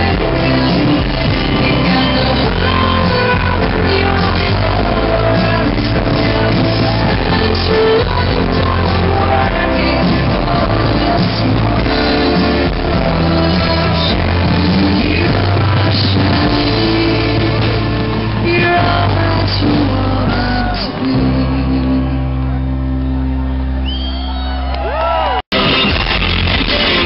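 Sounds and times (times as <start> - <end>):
loud rock music with singing: 0.0 - 27.0.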